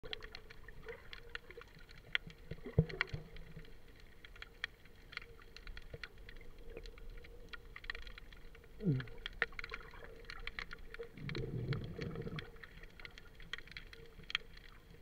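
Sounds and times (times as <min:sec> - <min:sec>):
underwater clicks and crackles: 0:00.0 - 0:15.0.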